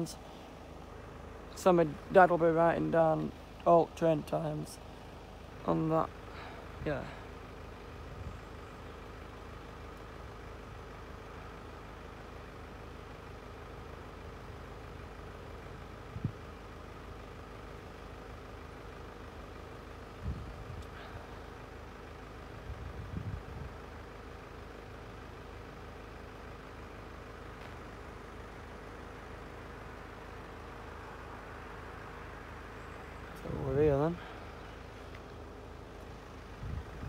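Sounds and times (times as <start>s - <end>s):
low engine-like hum: 0.0s - 37.0s.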